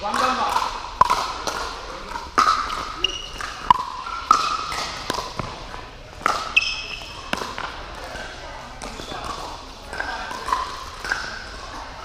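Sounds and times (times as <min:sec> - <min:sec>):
ball bouncing on court: 0:00.0 - 0:11.9
paddles striking plastic ball: 0:00.1 - 0:11.4.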